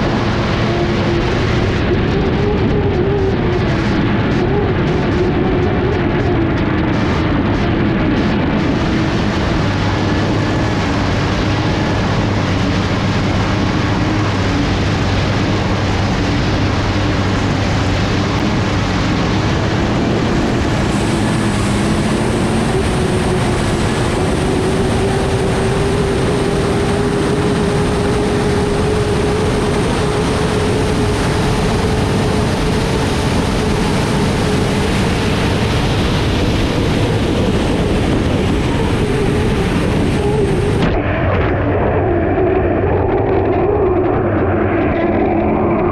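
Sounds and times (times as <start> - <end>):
thin high whine: 0.0 - 41.9
rush of wind and water: 0.0 - 45.9
turbine engine running hard: 0.0 - 45.9.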